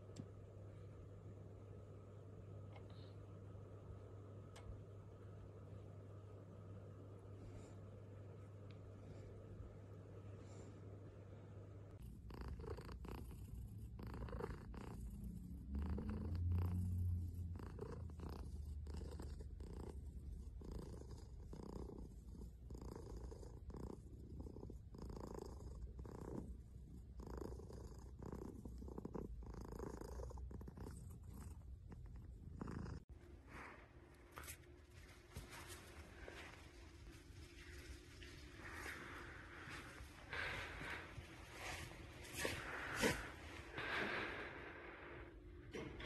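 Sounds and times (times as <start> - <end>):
cat purring: 2.7 - 33.8, 35.6 - 46.0.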